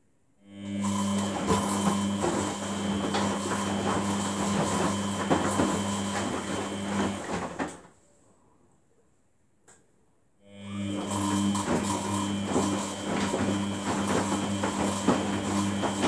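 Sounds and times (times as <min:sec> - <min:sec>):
washing machine motor hum: 0:00.4 - 0:07.9, 0:10.5 - 0:16.0.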